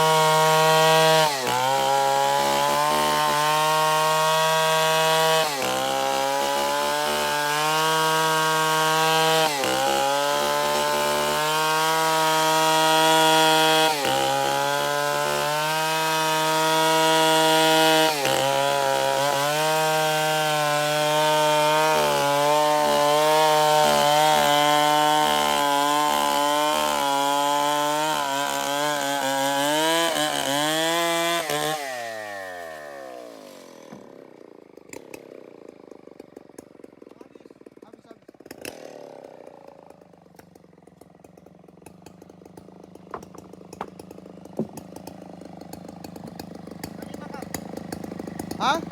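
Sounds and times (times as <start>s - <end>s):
chainsaw cutting through wood: 0.0s - 48.9s.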